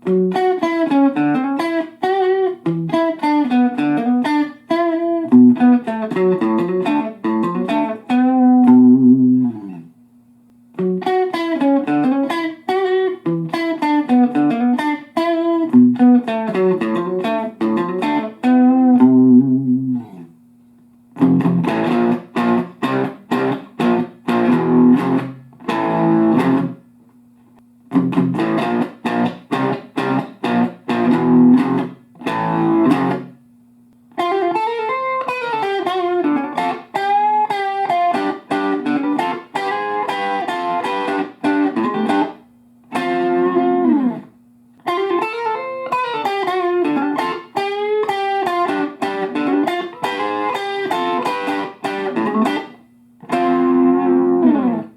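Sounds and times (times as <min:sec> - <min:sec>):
electric guitar playing: 0:00.0 - 0:09.9, 0:10.7 - 0:20.3, 0:21.2 - 0:26.8, 0:27.9 - 0:33.4, 0:34.1 - 0:54.9.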